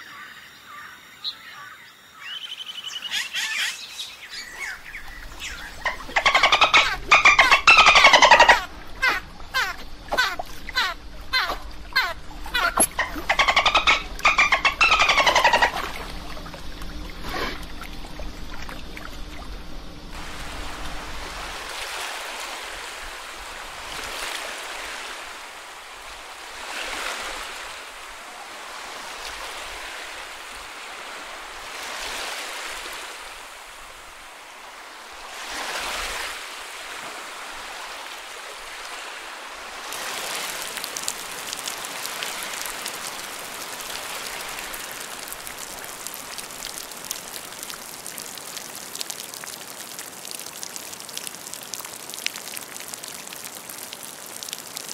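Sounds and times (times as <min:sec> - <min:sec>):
running water hiss: 0:00.0 - 0:54.9
ocean waves washing in: 0:03.9 - 0:54.9.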